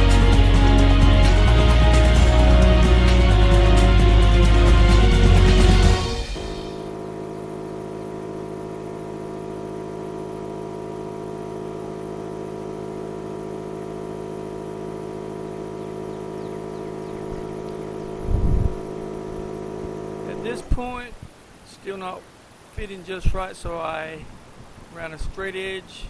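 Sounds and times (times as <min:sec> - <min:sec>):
machine humming steadily: 0:00.0 - 0:26.0.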